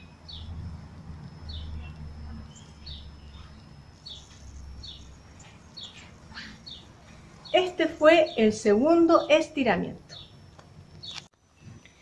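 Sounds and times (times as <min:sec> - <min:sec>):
small bird chirping: 0:00.0 - 0:09.4, 0:10.0 - 0:11.7.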